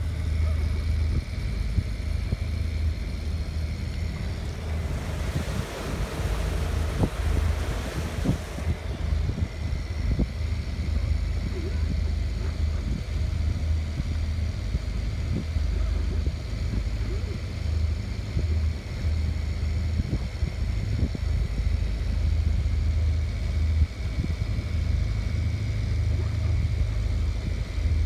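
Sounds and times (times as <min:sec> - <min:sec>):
motor boat engine drone: 0:00.0 - 0:28.0.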